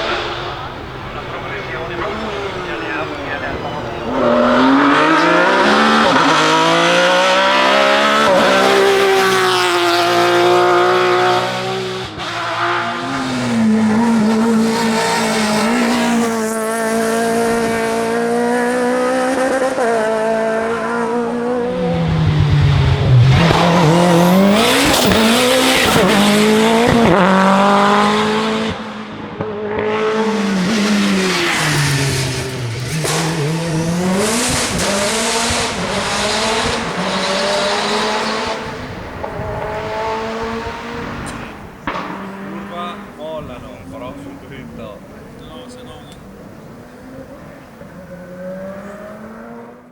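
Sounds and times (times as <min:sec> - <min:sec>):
race car engines at high revs: 0:00.0 - 0:49.9.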